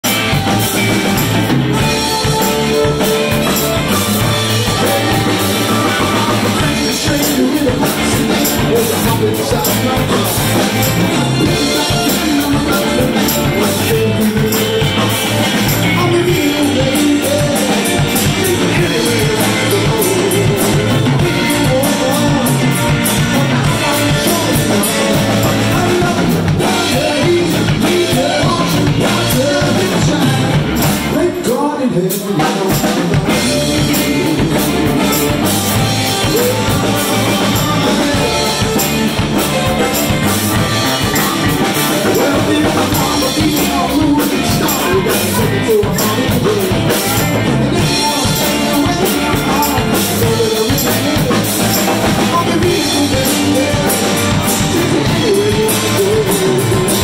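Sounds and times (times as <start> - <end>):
bass guitar: 0.0 - 57.0
drum kit: 0.0 - 57.0
electric guitar: 0.0 - 57.0
man singing lead vocals: 0.0 - 57.0.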